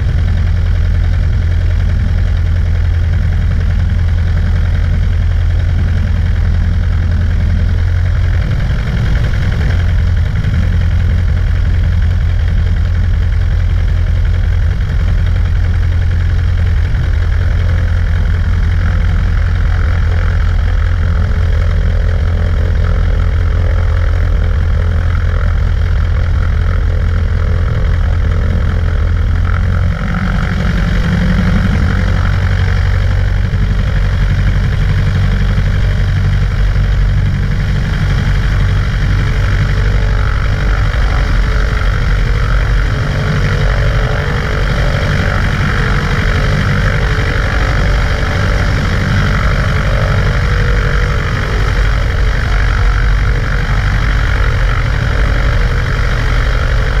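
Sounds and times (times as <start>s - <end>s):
airplane engine and propeller droning: 0.0s - 57.0s.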